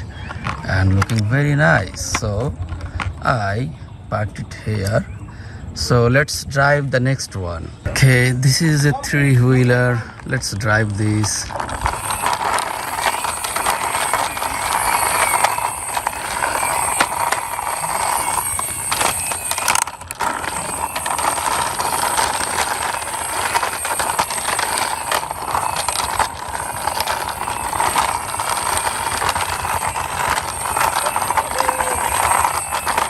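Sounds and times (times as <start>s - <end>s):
toy wheels rolling and rattling: 0.0s - 5.1s, 8.0s - 33.0s.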